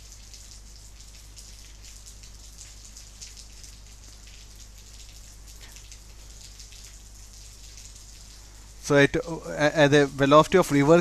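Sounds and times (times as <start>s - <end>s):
heavy rain through windows: 0.0s - 11.0s
low electrical hum: 0.0s - 11.0s.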